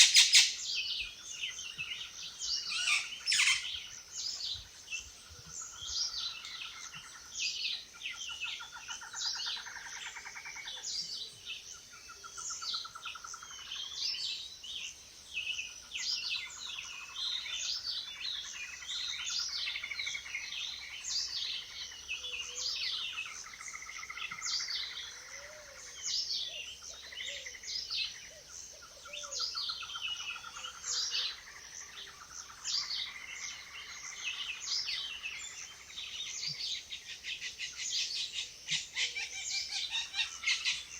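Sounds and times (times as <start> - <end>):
birds chirping: 0.0 - 14.9, 15.9 - 40.9.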